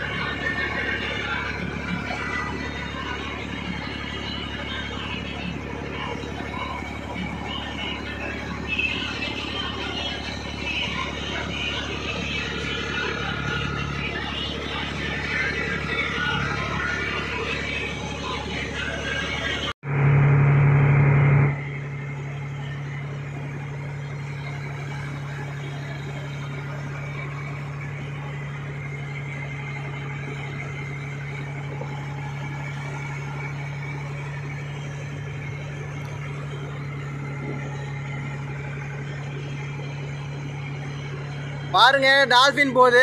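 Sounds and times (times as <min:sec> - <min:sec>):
boat engine running: 0:00.0 - 0:43.0
water noise: 0:00.0 - 0:43.0.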